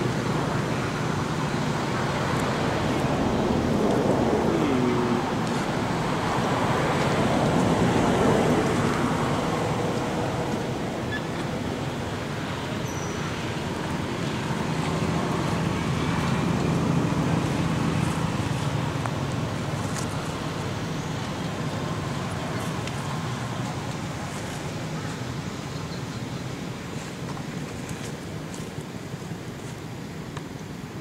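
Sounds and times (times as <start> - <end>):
distant road traffic rushing: 0.0 - 31.0.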